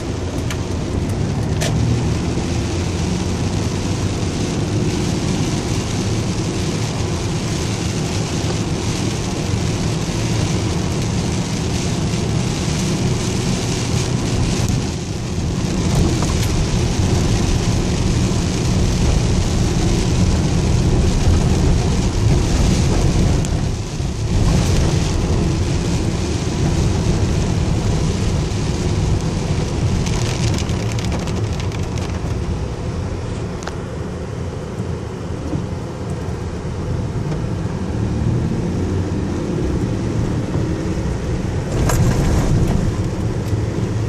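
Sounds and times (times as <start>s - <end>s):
heavy rain on vehicle roof: 0.0s - 33.7s, 34.6s - 44.0s
engine and tyres on wet road: 0.0s - 44.0s.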